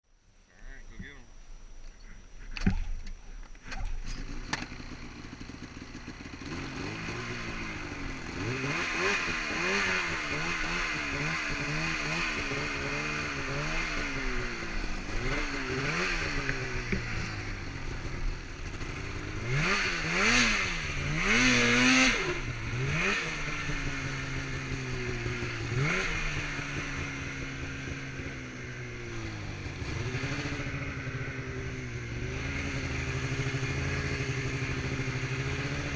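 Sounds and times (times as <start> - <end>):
snowmobile engine revving: 3.7 - 35.9.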